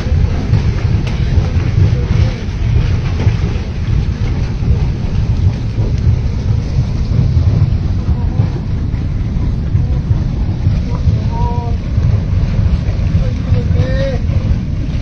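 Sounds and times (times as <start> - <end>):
churning water hissing: 0.0 - 15.0
mud and debris flow rumbling: 0.0 - 15.0.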